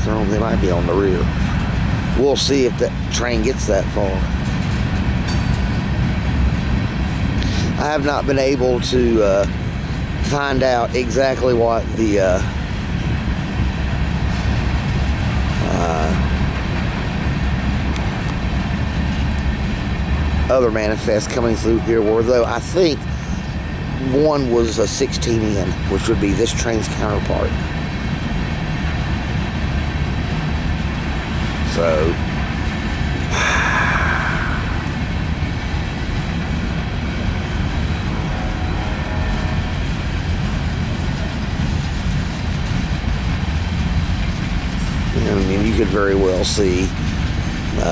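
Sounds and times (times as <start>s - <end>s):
freight train cars rolling on rails: 0.0s - 47.9s.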